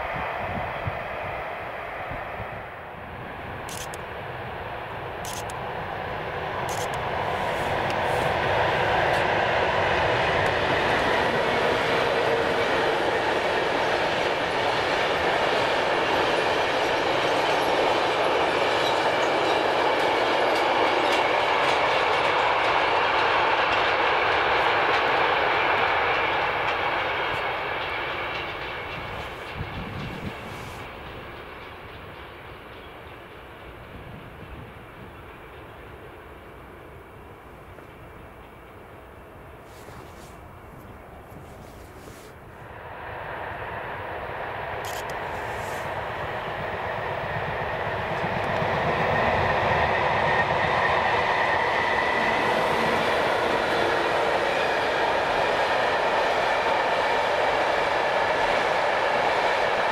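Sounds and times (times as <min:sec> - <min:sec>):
train wheels rushing on rails: 0:00.0 - 0:59.9.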